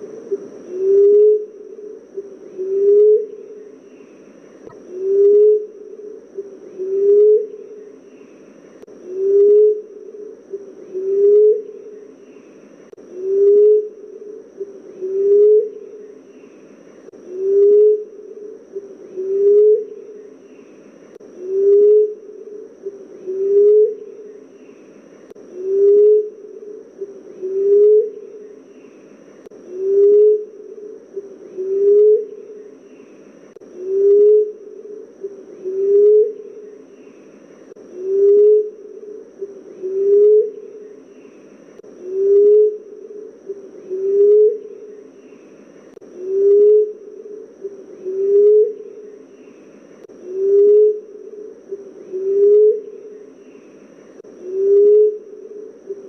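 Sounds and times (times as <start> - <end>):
dove hooting: 0.0 - 56.0.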